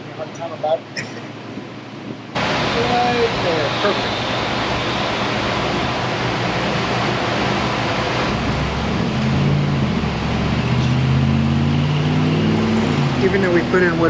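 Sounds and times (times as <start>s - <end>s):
low mechanical hum: 0.0s - 14.0s
loud rushing air: 1.4s - 14.0s.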